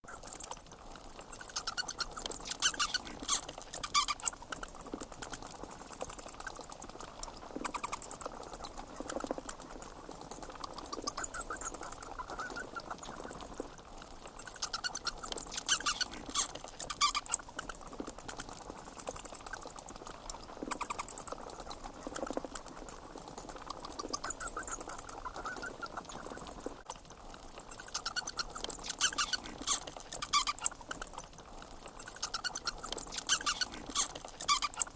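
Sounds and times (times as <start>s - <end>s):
bats squeaking: 0.1s - 20.0s, 20.6s - 34.9s.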